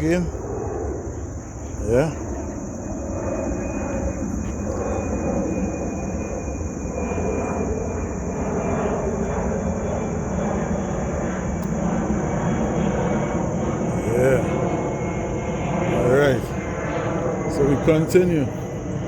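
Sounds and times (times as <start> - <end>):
airplane engine rumble: 0.0 - 19.0.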